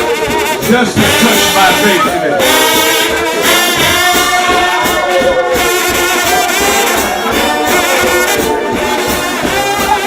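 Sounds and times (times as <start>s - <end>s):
steady drum beat: 0.0s - 10.0s
trombones playing and sliding: 0.0s - 10.0s.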